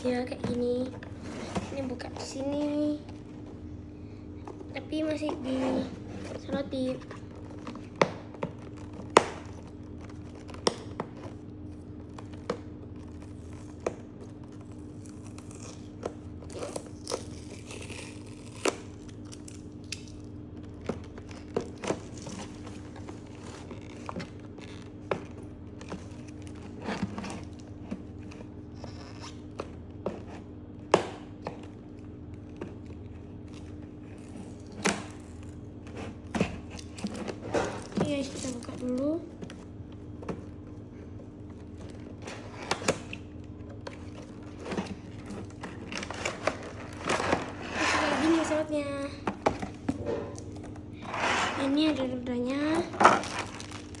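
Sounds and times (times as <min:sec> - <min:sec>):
steady low hum: 0:00.0 - 0:54.0
packaging being handled: 0:04.2 - 0:30.5, 0:31.6 - 0:54.0.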